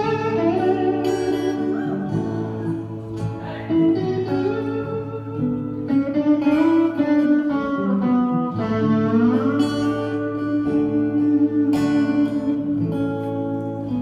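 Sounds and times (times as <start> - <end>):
live band playing slow song: 0.0 - 13.4
lead guitar melody: 0.0 - 14.0.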